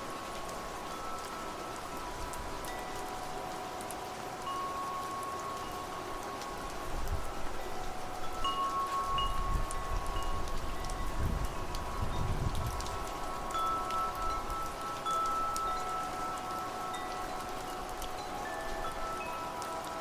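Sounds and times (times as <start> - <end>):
low rumble of wind: 0.0 - 20.0
rain pattering: 0.0 - 20.0
wind chimes ringing: 0.0 - 20.0.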